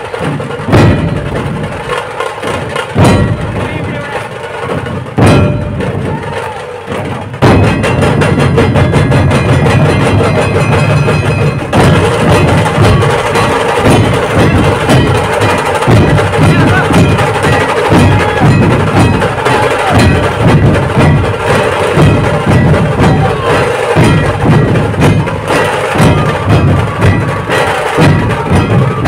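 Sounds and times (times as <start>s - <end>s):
large ensemble of drums: 0.0s - 29.0s.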